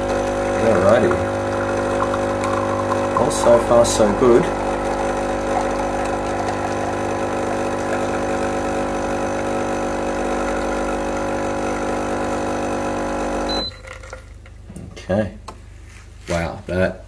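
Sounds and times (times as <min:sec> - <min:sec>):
espresso machine pump humming: 0:00.0 - 0:13.8.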